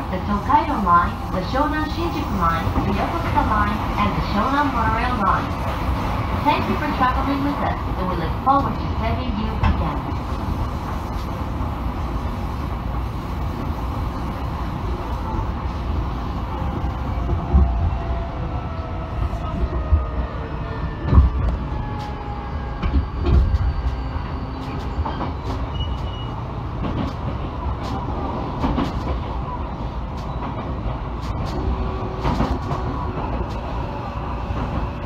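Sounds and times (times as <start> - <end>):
train rumble: 0.0 - 35.0.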